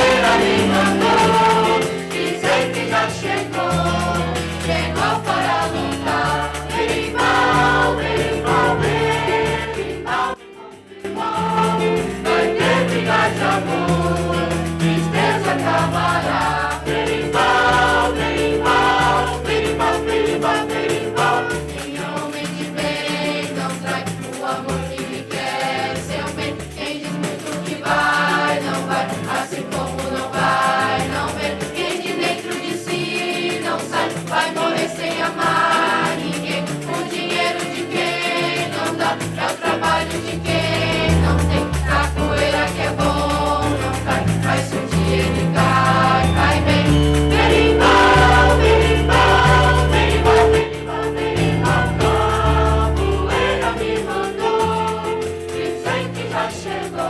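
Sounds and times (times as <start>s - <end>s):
choir singing: 0.0s - 57.0s
instrumental accompaniment: 0.0s - 57.0s.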